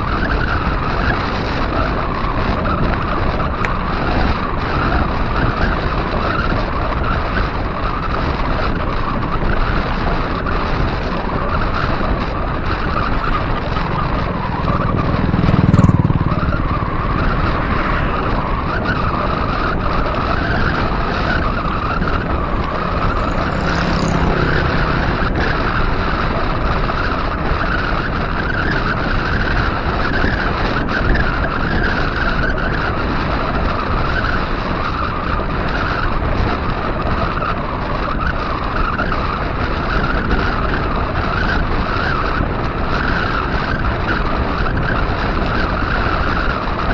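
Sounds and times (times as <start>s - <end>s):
wind on microphone: 0.0s - 46.9s.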